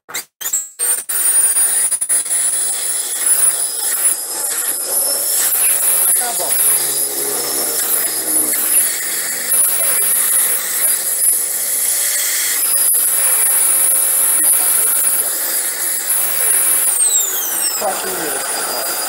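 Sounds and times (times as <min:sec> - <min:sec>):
small electric motor whining: 0:00.4 - 0:19.0.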